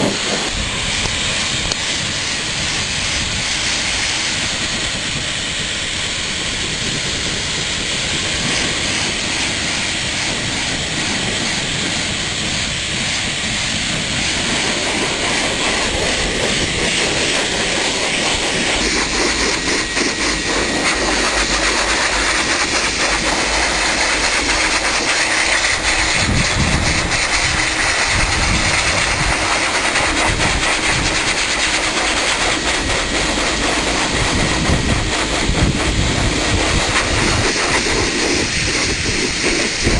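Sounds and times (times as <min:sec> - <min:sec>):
dog dryer blowing air: 0:00.0 - 0:39.9
low gusty rumbles: 0:00.0 - 0:39.9.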